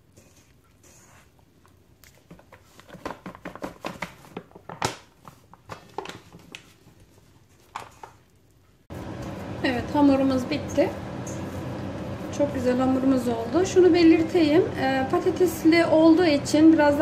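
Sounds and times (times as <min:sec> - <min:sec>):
hands kneading sticky dough: 0:00.0 - 0:14.6.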